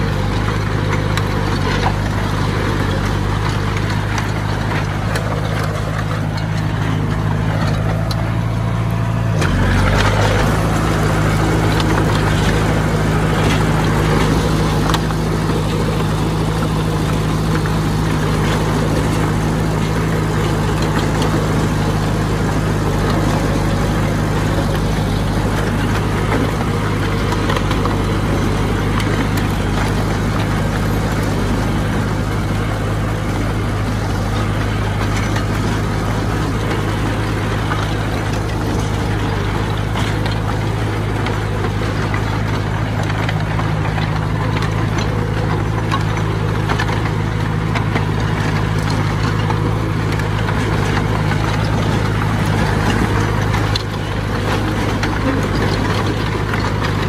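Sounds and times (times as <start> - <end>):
diesel engine of heavy machine: 0.0 - 57.0.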